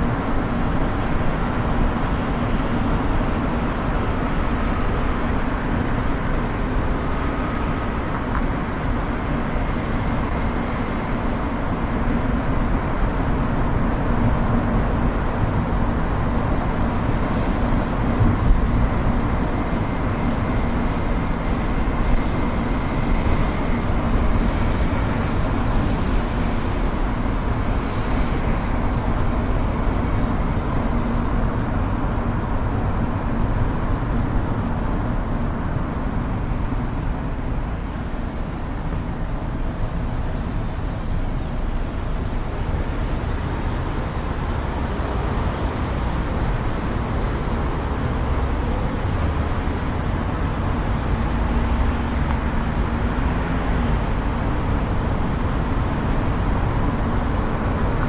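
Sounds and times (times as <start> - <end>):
car tyre and engine rumble: 0.0 - 58.0
traffic noise: 0.0 - 58.0.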